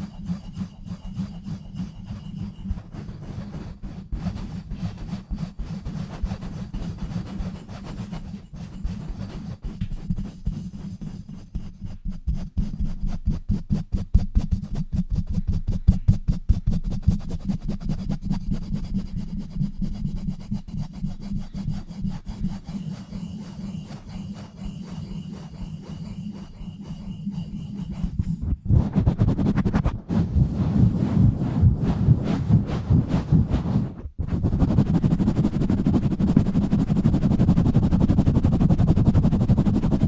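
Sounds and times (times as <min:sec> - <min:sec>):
fingers scratching on microphone: 0:00.0 - 0:40.0.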